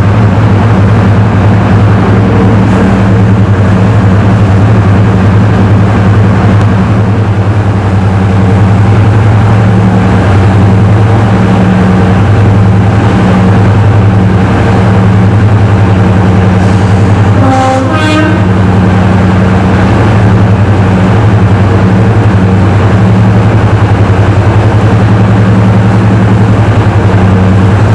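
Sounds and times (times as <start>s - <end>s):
diesel locomotive engines idling: 0.0s - 27.9s.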